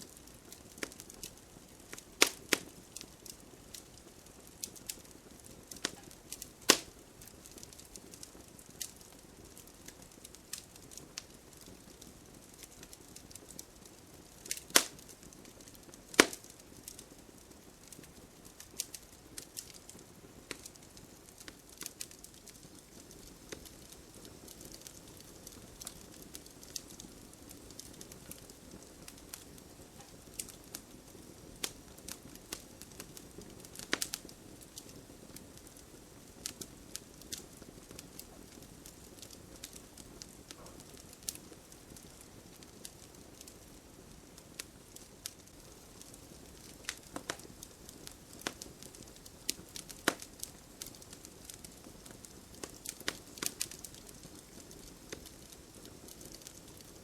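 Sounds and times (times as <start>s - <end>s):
campfire crackling: 0.0s - 57.0s
hiss of flames: 0.0s - 57.0s
sharp pops of burning wood: 0.1s - 57.0s.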